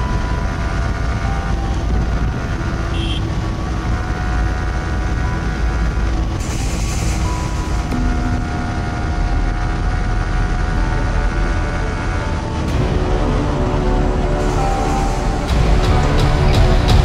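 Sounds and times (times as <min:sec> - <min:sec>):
motorcycle engine cruising: 0:00.0 - 0:17.0
wind rumble on camera: 0:00.0 - 0:17.0.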